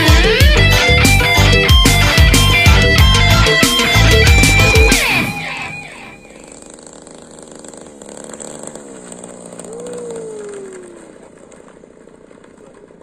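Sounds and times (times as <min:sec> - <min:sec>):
model plane engine running: 0:00.0 - 0:13.0.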